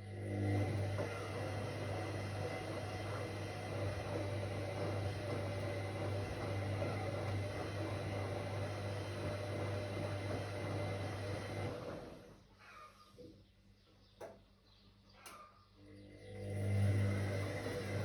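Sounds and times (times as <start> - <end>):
washing machine humming with whine: 0.0 - 14.6, 15.2 - 18.0.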